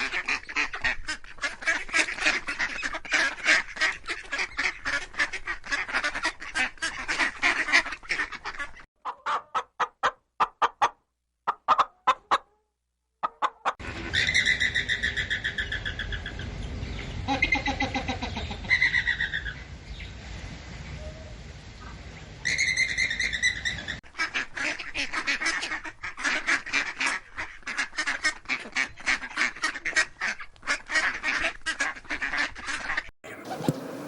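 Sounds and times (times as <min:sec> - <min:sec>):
birds calling: 0:00.0 - 0:09.7, 0:13.3 - 0:20.2, 0:22.4 - 0:34.0.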